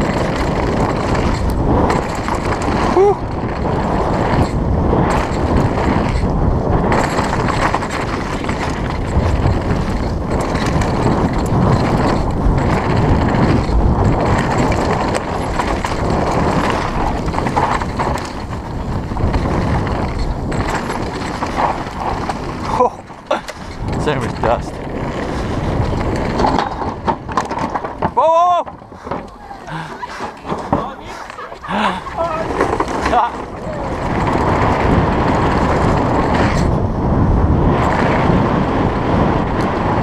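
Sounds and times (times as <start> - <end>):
chain and frame rattling: 0.0 - 36.7
bike tyres rumbling over dirt: 0.0 - 40.0
wind noise on microphone: 0.0 - 40.0.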